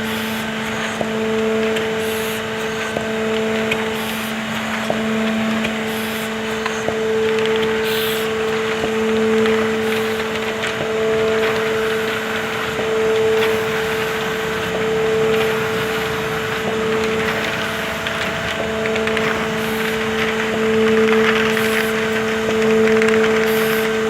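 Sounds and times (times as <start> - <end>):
envelope machine clattering: 1.6 - 24.0.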